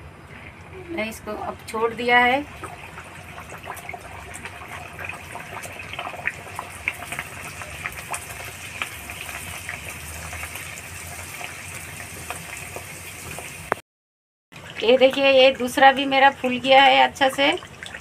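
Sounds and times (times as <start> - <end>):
dough deep-frying in oil: 0.3 - 13.8, 14.6 - 18.0.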